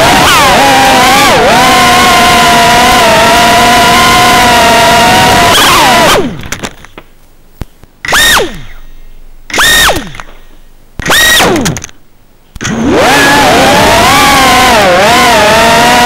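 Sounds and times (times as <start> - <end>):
drone motors whining: 0.0 - 6.7, 8.0 - 12.0, 12.6 - 16.0.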